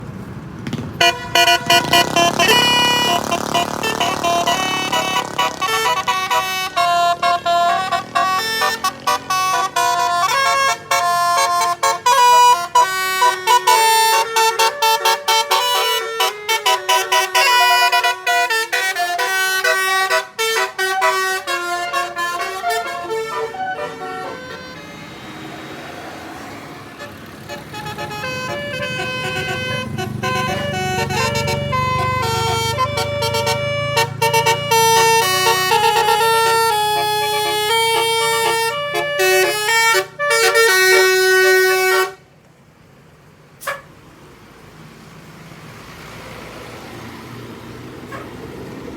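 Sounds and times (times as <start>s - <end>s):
low engine rumble: 0.0s - 46.2s
multi-tone air horns tune: 1.0s - 42.2s, 43.6s - 43.9s.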